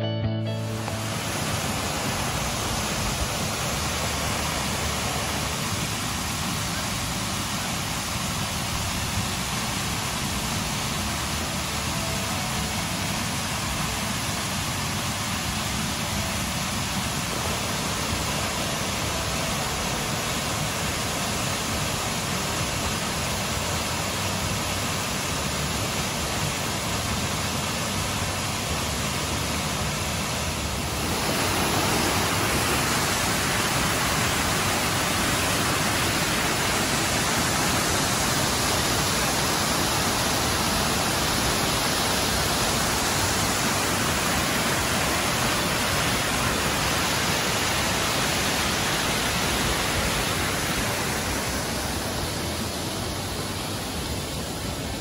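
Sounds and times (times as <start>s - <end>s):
waterfall rushing over rock: 0.6s - 55.0s.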